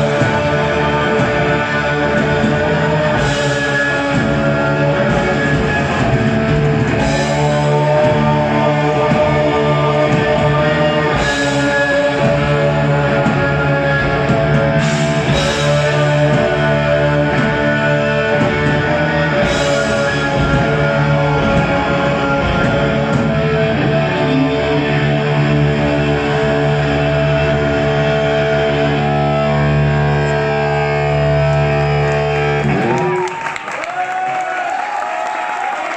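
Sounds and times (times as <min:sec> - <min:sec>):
distorted electric guitars: 0:00.0 - 0:33.6
drums: 0:00.0 - 0:35.9.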